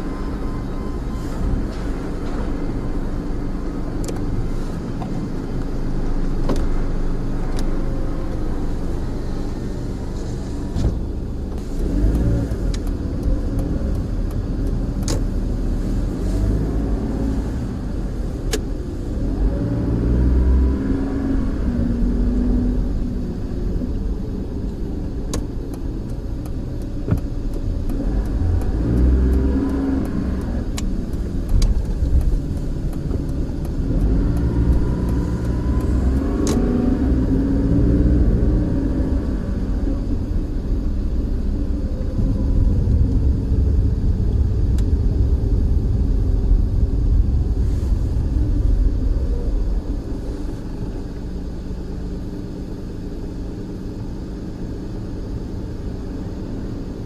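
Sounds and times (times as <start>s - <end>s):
car engine accelerating: 0.0s - 57.0s
road rumble: 0.0s - 57.0s.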